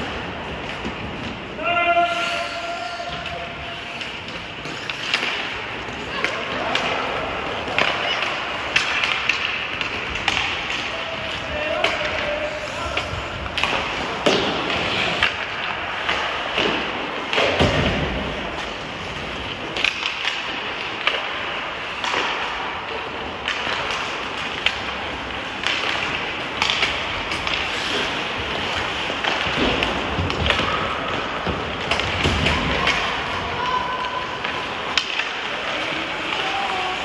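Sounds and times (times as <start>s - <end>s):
hockey sticks hitting puck: 0.0s - 37.0s
skates scraping on ice: 0.0s - 37.0s.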